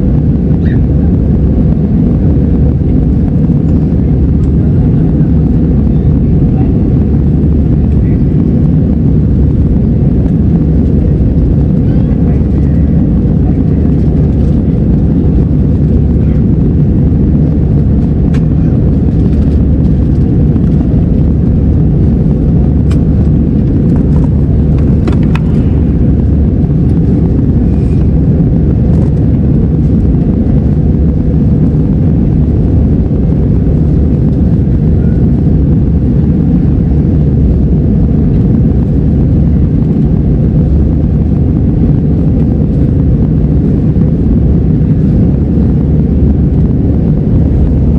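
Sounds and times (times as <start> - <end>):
jet engines rumbling: 0.0 - 47.9
rushing air in cabin: 0.0 - 47.9.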